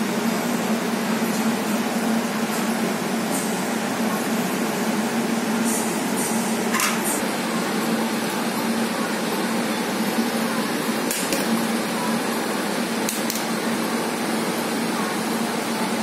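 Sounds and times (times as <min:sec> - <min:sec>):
air cooler fan whooshing: 0:00.0 - 0:16.0.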